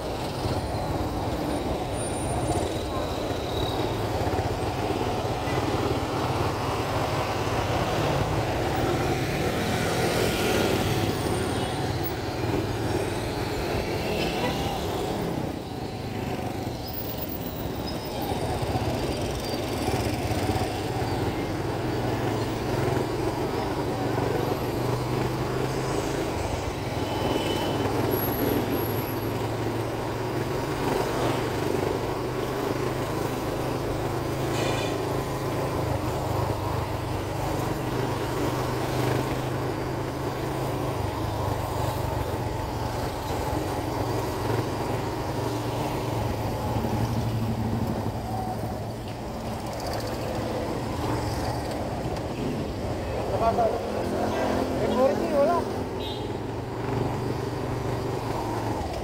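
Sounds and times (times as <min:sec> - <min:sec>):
passing street traffic: 0:00.0 - 0:59.0.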